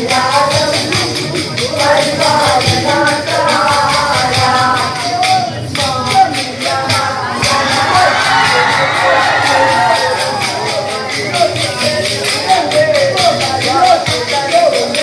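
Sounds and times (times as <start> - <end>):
people singing: 0.0 - 15.0.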